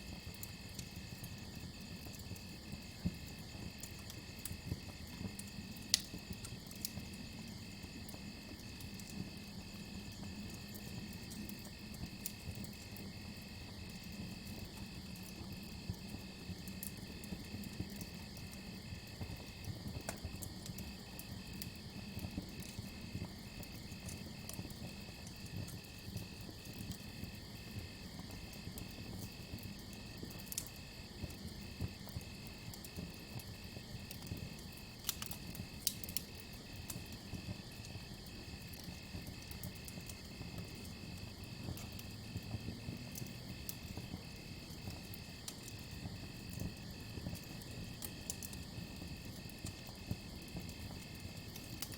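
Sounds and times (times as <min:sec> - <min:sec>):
campfire crackling and popping: 0:00.1 - 0:51.9.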